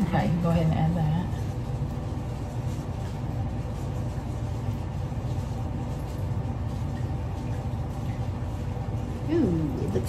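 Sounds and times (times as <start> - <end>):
motor or fan humming: 0.0 - 10.0.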